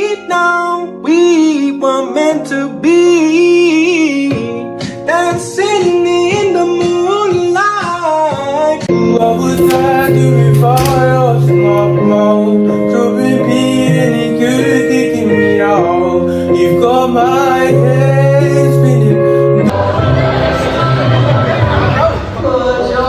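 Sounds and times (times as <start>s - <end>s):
guitar: 0.0s - 22.4s
person singing: 0.0s - 22.9s.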